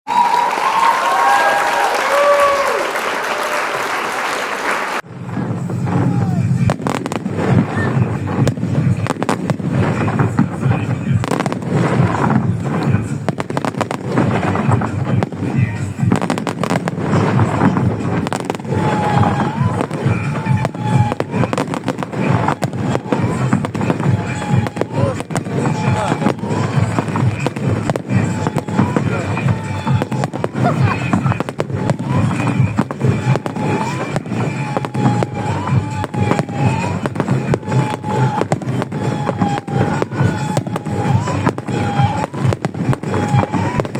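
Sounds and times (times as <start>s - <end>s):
fireworks bangs and crackles: 0.2s - 3.6s, 5.0s - 43.9s
low rumble of explosions: 5.0s - 43.9s
music: 5.1s - 43.9s
voices: 5.8s - 43.9s.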